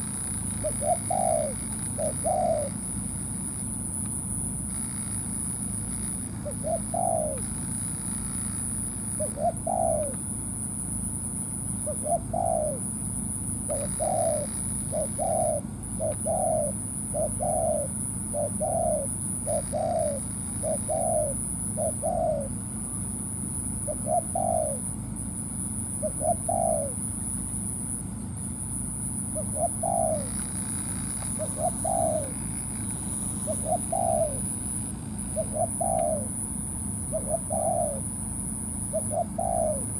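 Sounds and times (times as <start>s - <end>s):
dove cooing: 0.0s - 39.9s
steady high-pitched whine: 0.0s - 39.9s.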